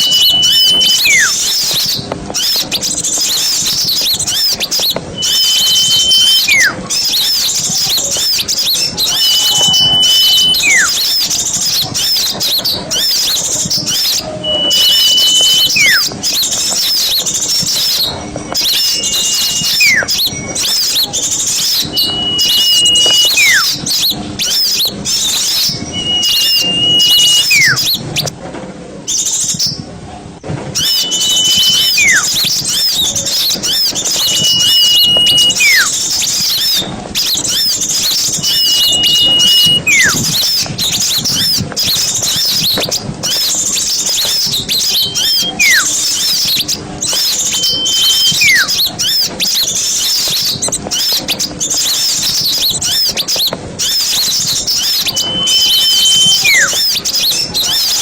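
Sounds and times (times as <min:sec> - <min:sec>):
bird falling whistle: 0:00.0 - 0:28.3, 0:30.7 - 0:58.0
songbirds high chatter: 0:00.0 - 0:28.4, 0:29.0 - 0:29.9, 0:30.7 - 0:58.0.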